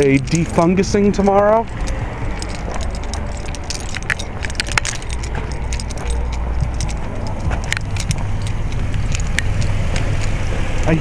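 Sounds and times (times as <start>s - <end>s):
light clicks and jingles: 0.0s - 11.0s
pickup truck idling: 0.0s - 11.0s.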